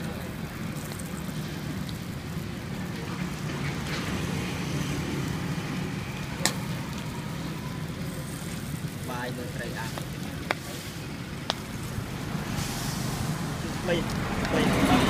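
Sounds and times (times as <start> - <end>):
fish sizzling on charcoal grill: 0.0 - 15.0.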